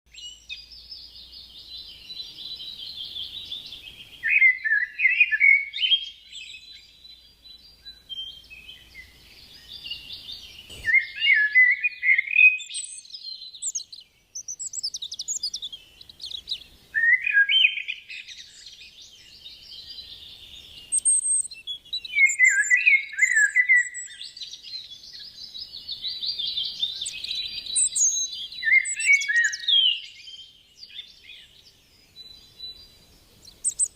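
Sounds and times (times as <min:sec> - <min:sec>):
birds singing: 0:00.1 - 0:33.9
high bird chirps: 0:00.1 - 0:33.9.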